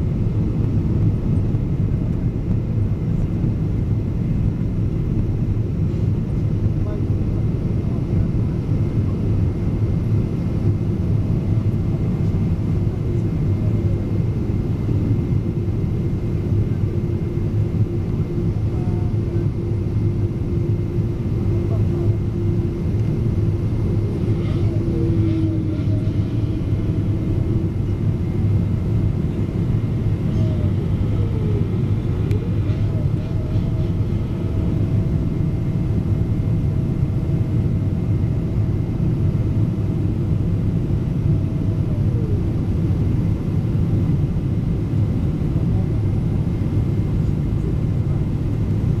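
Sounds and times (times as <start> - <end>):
jet engine roar and airflow: 0.0 - 49.0.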